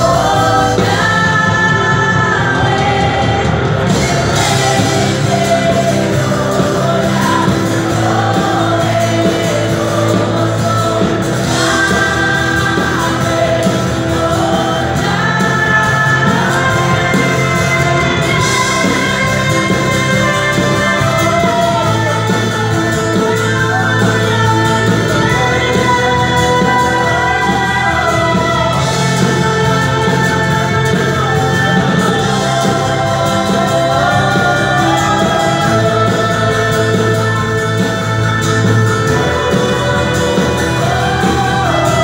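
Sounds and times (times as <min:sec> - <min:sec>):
electric guitar: 0:00.0 - 0:42.0
keyboard: 0:00.0 - 0:42.0
women singing praise song: 0:00.0 - 0:42.0.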